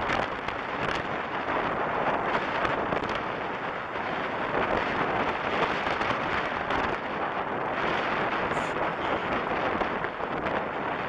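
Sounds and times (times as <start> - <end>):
surf breaking on beach: 0.0 - 11.0
wind blowing across microphone: 0.0 - 11.0.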